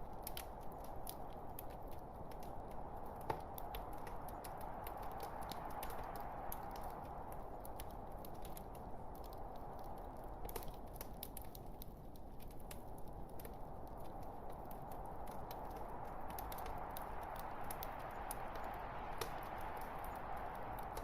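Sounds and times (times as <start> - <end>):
fire pops and snaps: 0.0 - 21.0.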